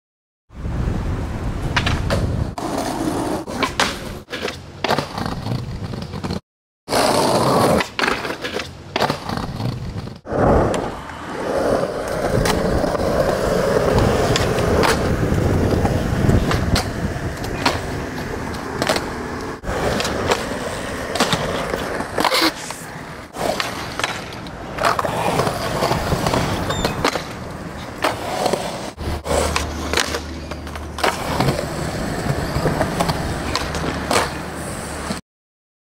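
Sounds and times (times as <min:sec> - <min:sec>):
skateboard wheels rolling on concrete: 0:00.6 - 0:35.2
skateboard clacks: 0:01.6 - 0:06.4, 0:07.0 - 0:35.2
skateboard grinding along ledge: 0:01.6 - 0:35.2.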